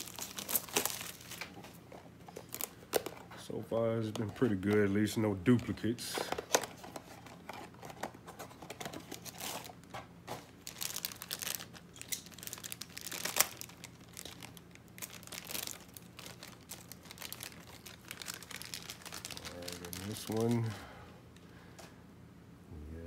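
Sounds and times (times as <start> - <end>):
plastic wrapper crinkling and tearing: 0.0 - 3.2, 4.0 - 20.8.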